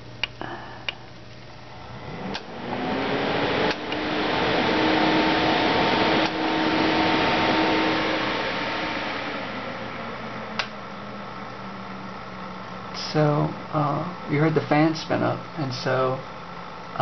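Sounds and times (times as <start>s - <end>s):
fans whirring: 0.0s - 17.0s.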